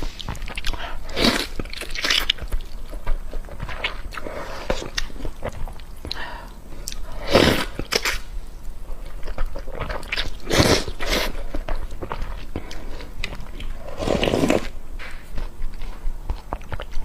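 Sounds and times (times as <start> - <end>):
close chewing with wet clicks: 0.0 - 7.1, 7.8 - 13.8, 15.3 - 17.0
noisy bursts of eating: 0.0 - 17.0.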